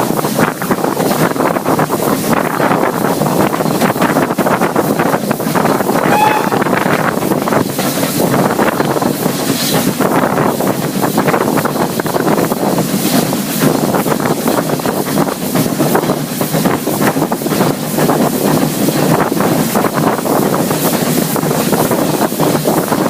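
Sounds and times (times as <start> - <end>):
train running with clatter: 0.0 - 23.0
wind buffeting microphone: 0.0 - 23.0.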